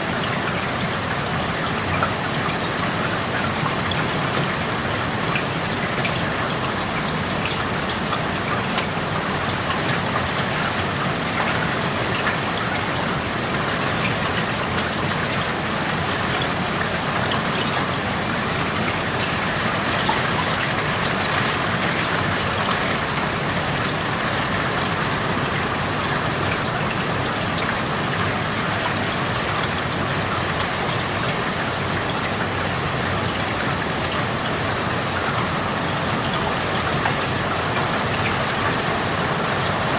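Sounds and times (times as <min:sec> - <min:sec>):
rain falling and pattering: 0:00.0 - 0:39.9.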